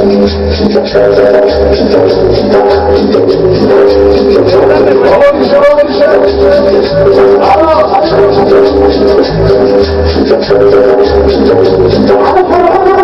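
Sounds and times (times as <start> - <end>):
loud music over sound system: 0.0 - 13.0.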